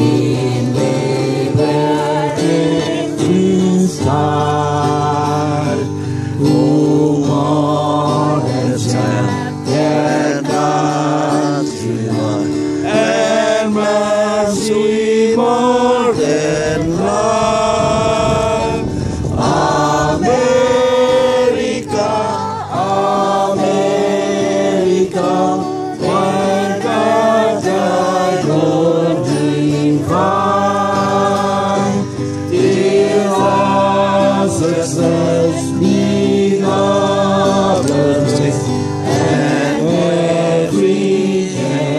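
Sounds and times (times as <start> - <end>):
gospel choir singing: 0.0 - 41.9.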